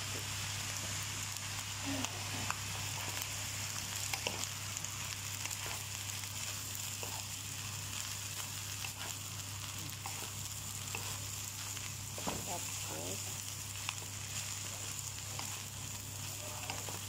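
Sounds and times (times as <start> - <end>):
rice sizzling in a wok: 0.0 - 17.0.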